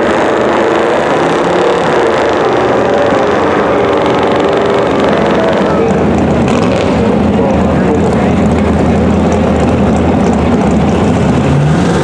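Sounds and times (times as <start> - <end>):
car and truck engines running: 0.0 - 12.0.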